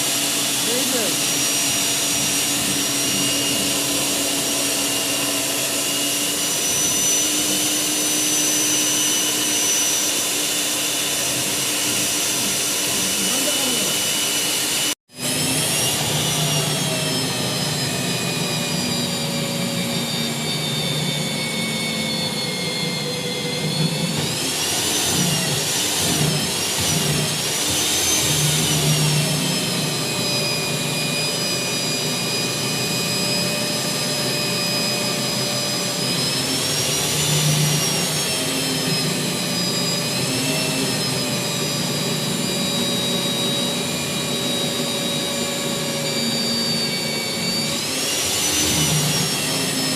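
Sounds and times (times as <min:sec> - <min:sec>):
core drill motor whining: 0:00.0 - 0:49.9.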